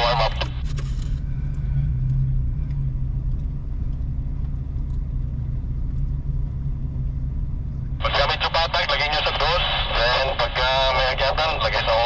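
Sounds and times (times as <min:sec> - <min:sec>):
low vehicle engine rumble: 0:00.0 - 0:12.0.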